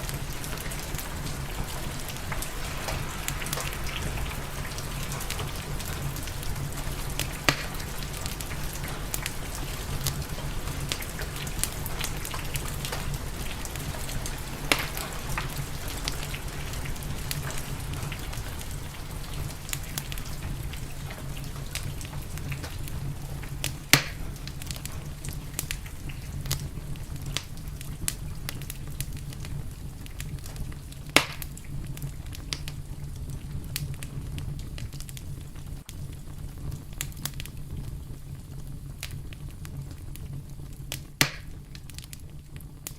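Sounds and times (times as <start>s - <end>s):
crackling wood fire: 0.0s - 42.9s
sharp pops from fire: 0.0s - 42.9s
steady rain: 0.0s - 42.9s.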